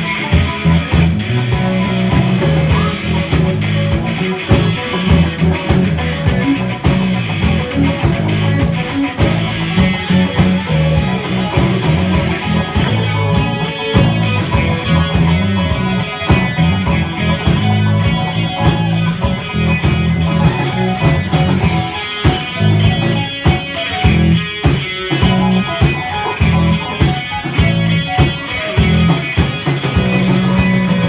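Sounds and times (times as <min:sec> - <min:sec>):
drum kit beat: 0:00.0 - 0:31.0
electric guitar: 0:00.0 - 0:31.0
heavy bass line: 0:00.0 - 0:31.0
rock band playing live: 0:00.0 - 0:31.0.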